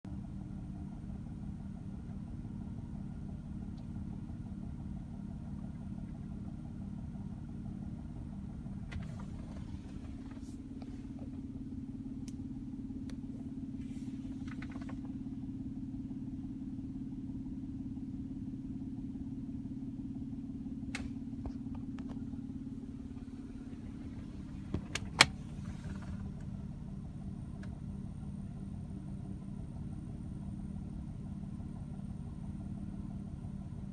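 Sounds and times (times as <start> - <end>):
car engine running with knocking: 0.1 - 33.9.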